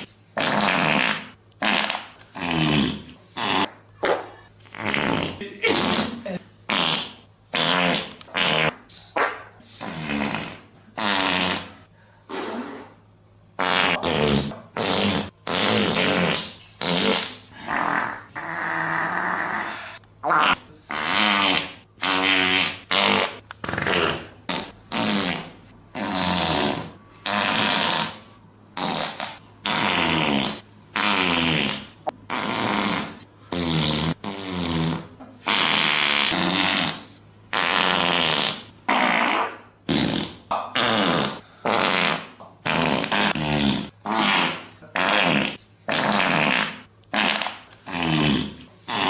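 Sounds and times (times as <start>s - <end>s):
fart sounds: 0.0s - 13.0s, 13.6s - 49.0s.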